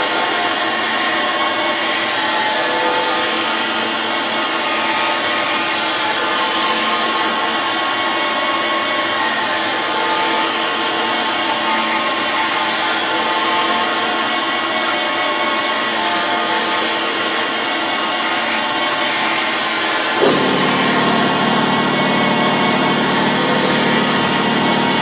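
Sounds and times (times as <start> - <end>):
grinder machine whine: 0.0 - 25.0
grinding wheel hissing on steel: 0.1 - 25.0.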